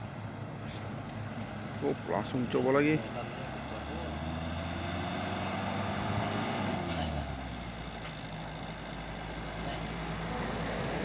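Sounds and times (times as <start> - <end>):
heavy truck engine under load: 0.8 - 11.0.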